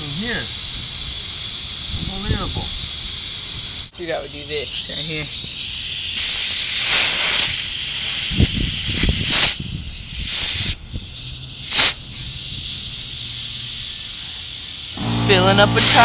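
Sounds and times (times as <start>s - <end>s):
compressed air hissing: 0.0s - 16.0s.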